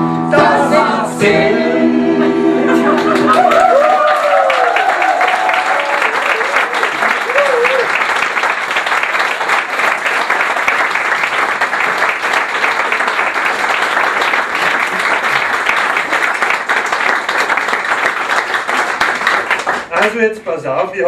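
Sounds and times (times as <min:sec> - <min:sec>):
audience applauding: 0:02.6 - 0:20.3.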